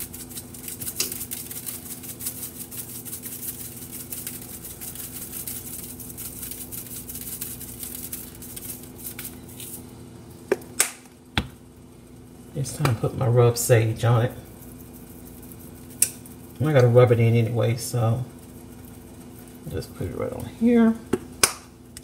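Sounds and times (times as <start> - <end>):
spice shaker patter: 0.0 - 10.8, 11.4 - 20.4
steady low hum: 0.0 - 22.0.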